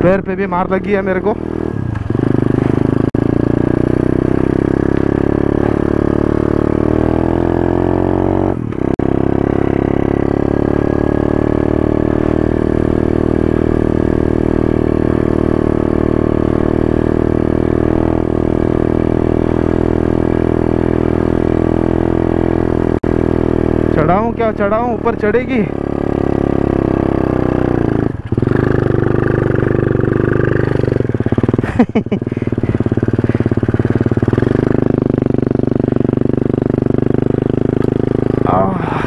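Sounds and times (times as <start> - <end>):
dirt bike engine running: 0.0 - 39.0.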